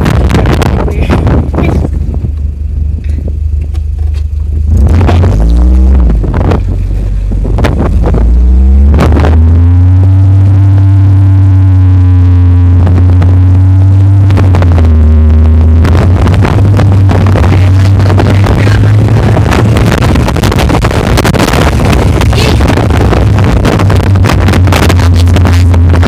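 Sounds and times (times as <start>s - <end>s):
distorted low rumble: 0.0s - 26.0s
off-road vehicle engine accelerating: 0.0s - 26.0s.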